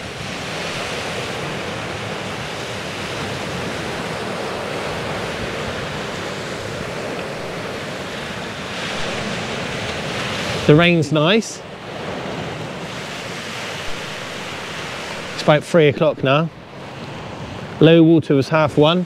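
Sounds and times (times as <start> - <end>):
sea surf washing on shore: 0.0 - 19.0
wind: 0.0 - 19.0.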